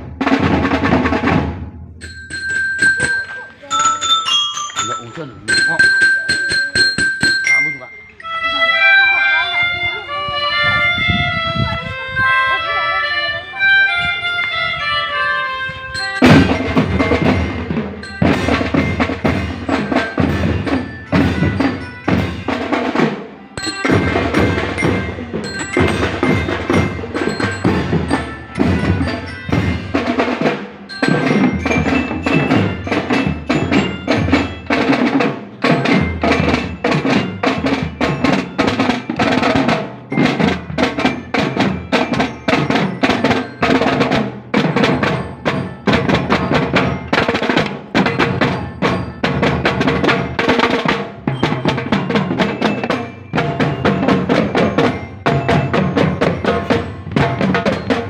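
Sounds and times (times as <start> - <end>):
quick percussion strikes: 0.0 - 8.6, 16.0 - 58.0
ringing mallet tones: 2.0 - 9.6, 15.8 - 58.0.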